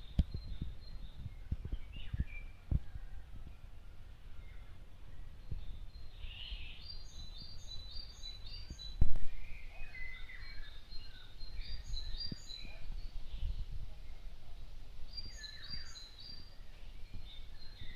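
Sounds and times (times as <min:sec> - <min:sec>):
small birds chirping: 0:00.0 - 0:17.9
wind rumble on microphone: 0:00.0 - 0:17.9.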